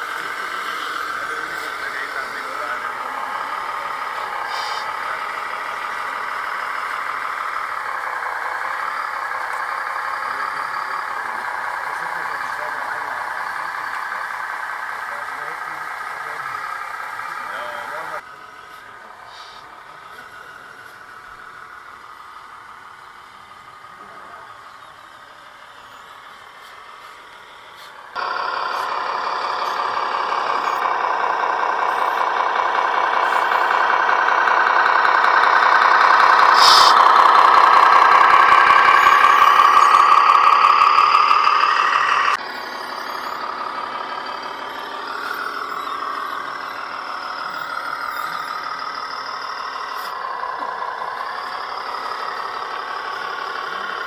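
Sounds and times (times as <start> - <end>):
toy truck motor and drivetrain: 0.0 - 54.0.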